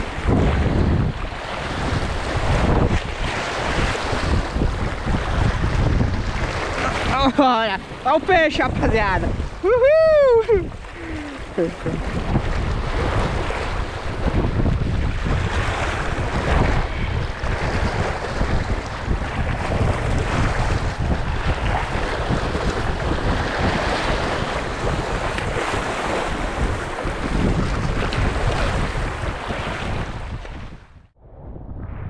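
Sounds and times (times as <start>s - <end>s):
waves washing over rocks: 0.0s - 9.7s, 10.5s - 30.3s
wind buffeting microphone: 0.0s - 32.0s.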